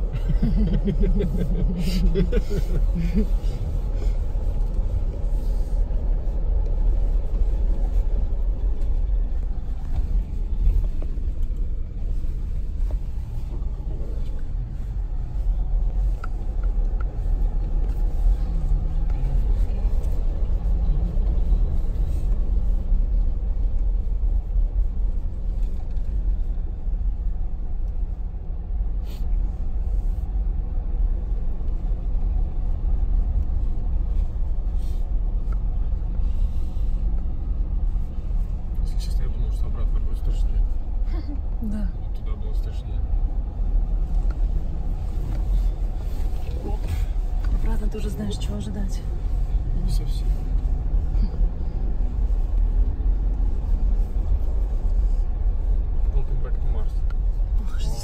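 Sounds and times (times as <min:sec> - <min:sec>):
car rumbling on snow: 0:00.0 - 0:58.0.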